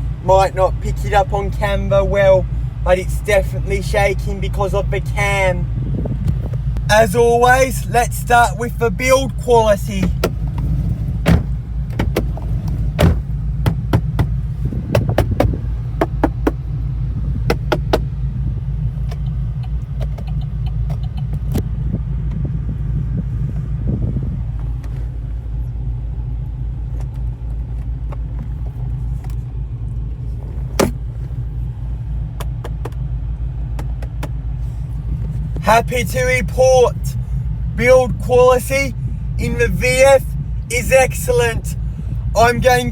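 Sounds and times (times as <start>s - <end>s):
engine idling with low rumble: 0.0s - 42.9s.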